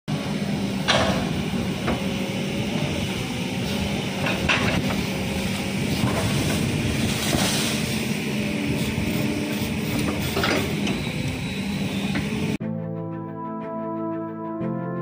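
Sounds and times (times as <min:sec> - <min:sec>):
excavator diesel engine running: 0:00.1 - 0:12.6.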